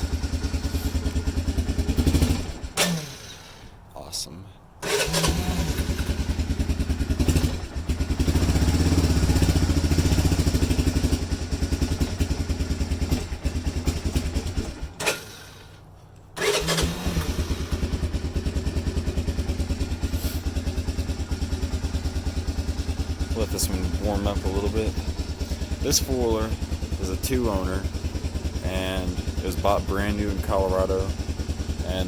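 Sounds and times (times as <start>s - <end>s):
atv engine starting and running: 0.0s - 32.0s.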